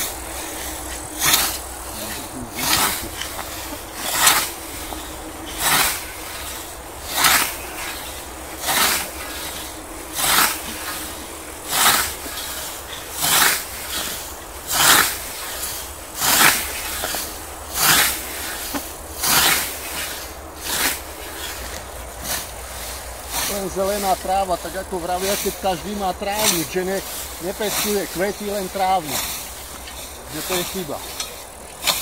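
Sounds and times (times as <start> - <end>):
low steady background noise: 0.0 - 32.0
rhythmic swishing strokes: 0.0 - 32.0.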